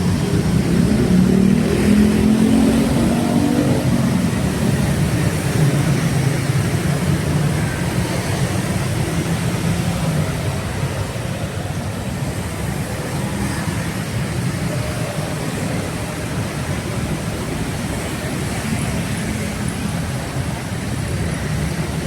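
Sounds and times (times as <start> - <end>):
street traffic rumble: 0.0 - 22.0
vehicle engines running: 0.0 - 22.0.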